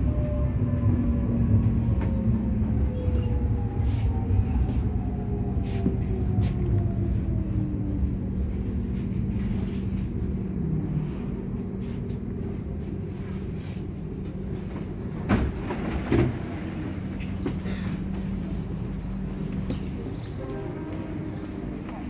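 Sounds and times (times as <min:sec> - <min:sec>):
tram rumble and hum: 0:00.0 - 0:22.0.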